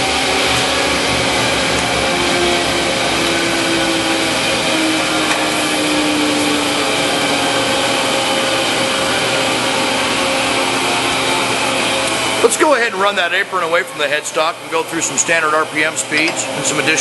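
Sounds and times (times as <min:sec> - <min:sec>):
lathe running with mechanical whir: 0:00.0 - 0:17.0.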